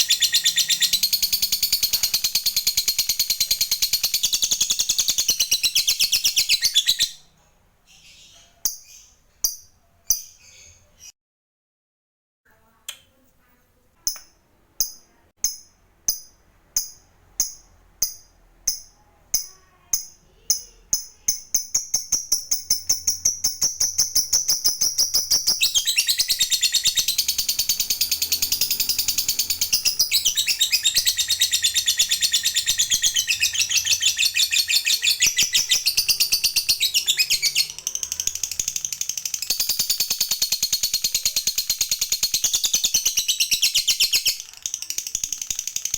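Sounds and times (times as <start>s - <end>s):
lovebird chirping and trilling: 0.0s - 11.1s, 14.1s - 45.9s.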